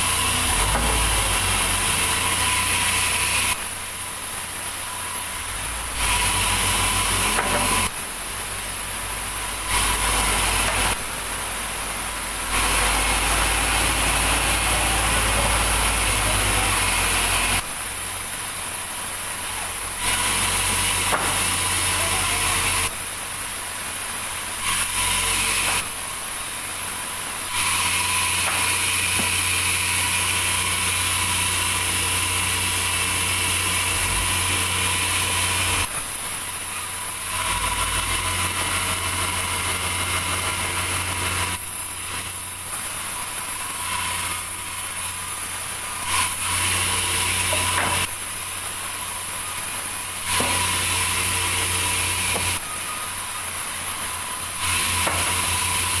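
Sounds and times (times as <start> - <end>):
sawmill machinery humming and whining: 0.0 - 56.0.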